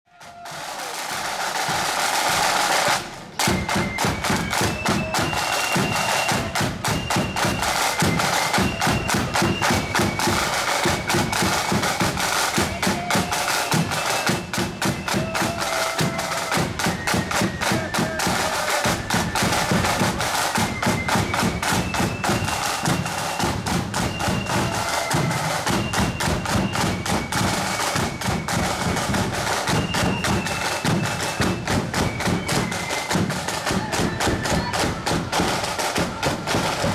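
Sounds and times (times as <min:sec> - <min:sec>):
high flute melody: 0:00.1 - 0:36.9
side drums beating: 0:00.1 - 0:36.9.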